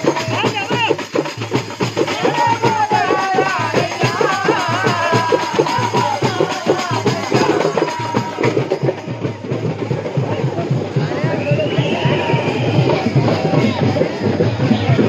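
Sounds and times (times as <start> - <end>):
fast folk drumming: 0.0 - 15.0.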